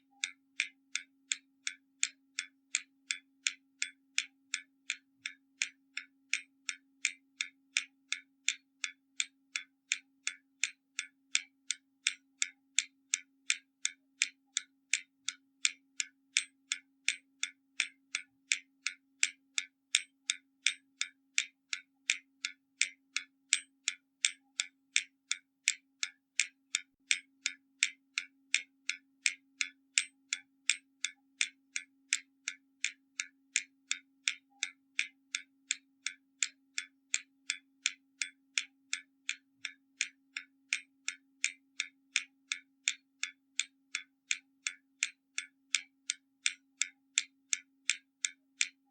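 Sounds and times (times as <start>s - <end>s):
clock ticking: 0.0s - 48.9s.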